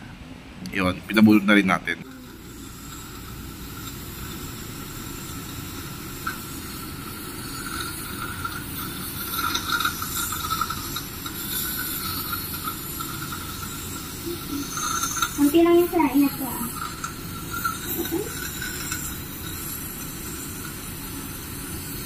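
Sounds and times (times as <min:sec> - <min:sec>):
suction slurping: 0:02.0 - 0:22.0
saliva ejector suction hiss: 0:02.2 - 0:22.0.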